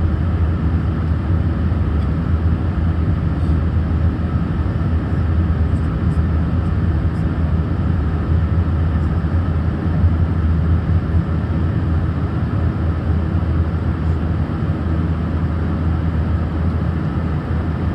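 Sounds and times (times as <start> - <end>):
airplane cabin engine drone: 0.0 - 17.9.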